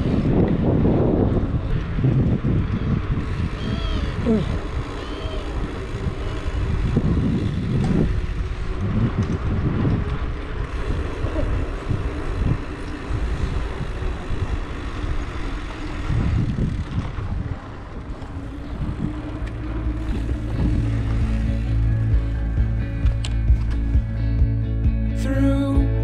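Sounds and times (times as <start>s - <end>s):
wind and road noise: 0.0s - 25.2s.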